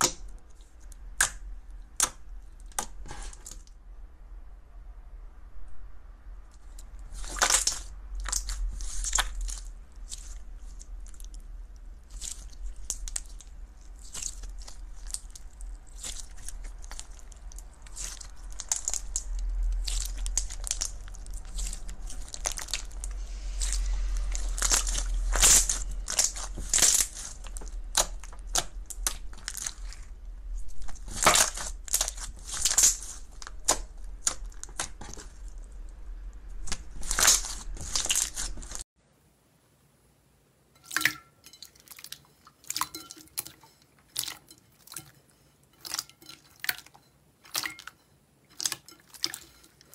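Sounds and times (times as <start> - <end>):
slime crackling and squelching: 6.5 - 38.9, 40.8 - 49.9.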